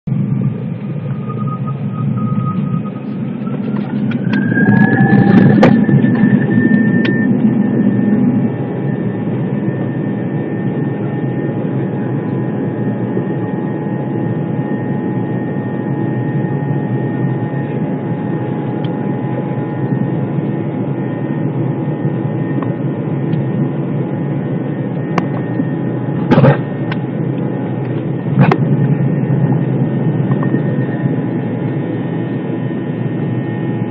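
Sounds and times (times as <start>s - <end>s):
jet engines spooling up: 0.2s - 33.9s.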